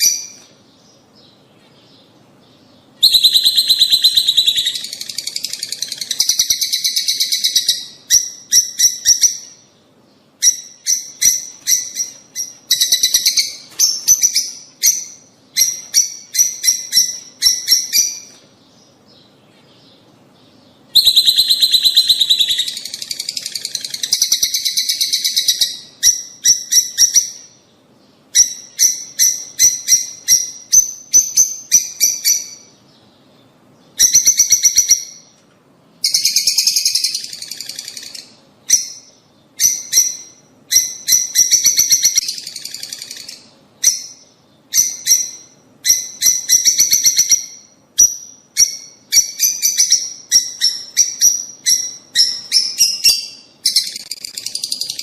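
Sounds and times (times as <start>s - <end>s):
lovebirds chattering: 0.0s - 35.3s, 36.0s - 55.0s.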